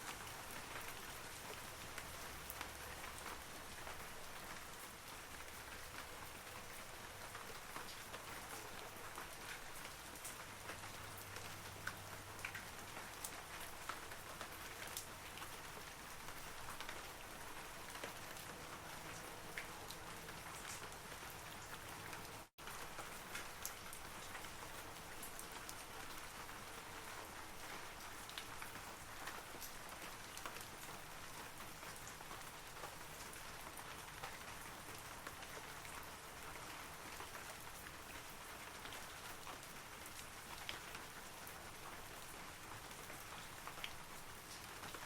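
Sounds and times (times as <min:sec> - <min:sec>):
rain falling on trees: 0:00.0 - 0:45.0.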